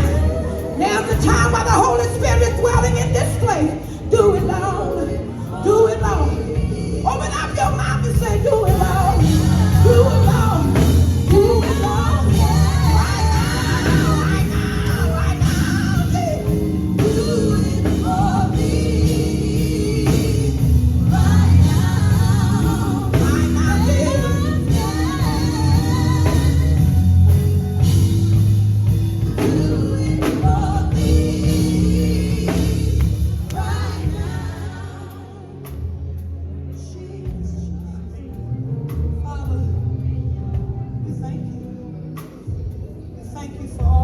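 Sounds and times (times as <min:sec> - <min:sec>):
band with bass and drums: 0:00.0 - 0:37.6
gospel group singing: 0:00.0 - 0:44.0.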